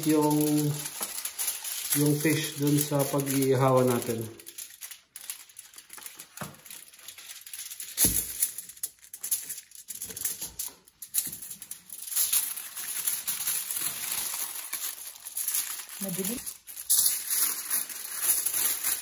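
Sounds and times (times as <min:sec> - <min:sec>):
foil crinkling and rustling: 0:00.0 - 0:19.0.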